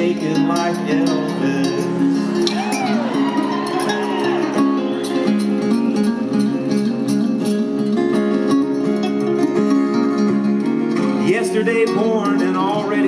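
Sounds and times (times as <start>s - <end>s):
live band playing instrumental: 0.0s - 13.0s
strummed acoustic strings: 0.0s - 13.0s.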